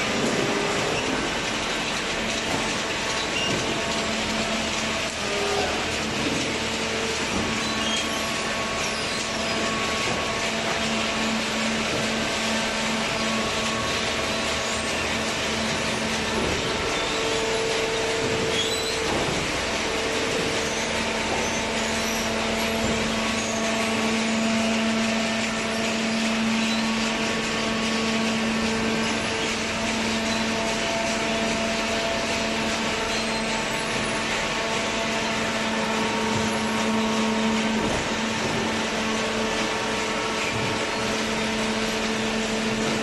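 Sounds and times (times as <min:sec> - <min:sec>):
baling press machine running: 0:00.0 - 0:43.0.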